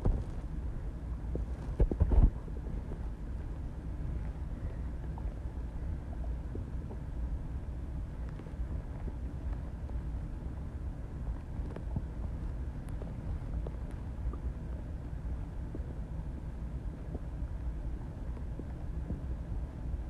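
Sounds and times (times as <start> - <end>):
low body rumble: 0.0 - 20.0.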